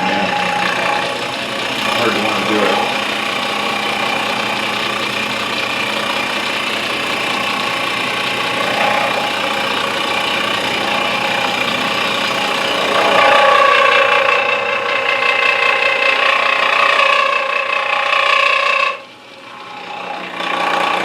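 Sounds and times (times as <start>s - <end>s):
milling machine hum and whine: 0.0s - 21.0s.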